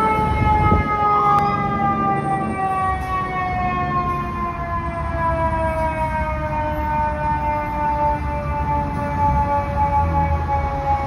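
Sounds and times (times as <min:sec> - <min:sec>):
fire truck siren wailing: 0:00.0 - 0:11.0
highway traffic: 0:00.0 - 0:11.0
truck engines rumbling: 0:00.0 - 0:11.0.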